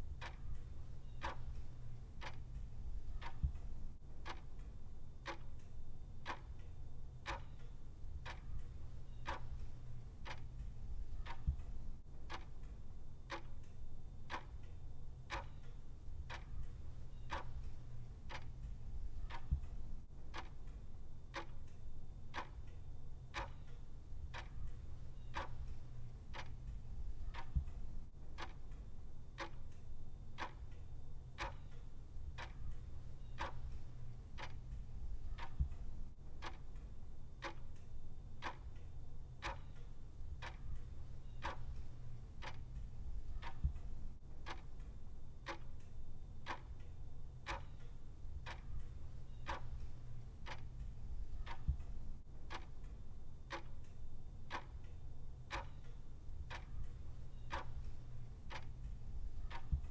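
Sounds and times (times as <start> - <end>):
clock ticking: 0.0 - 59.9
low background rumble: 0.0 - 59.9.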